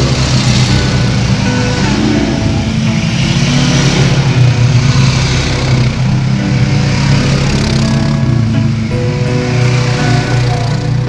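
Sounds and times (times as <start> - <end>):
four-wheeler engines passing: 0.0 - 11.0.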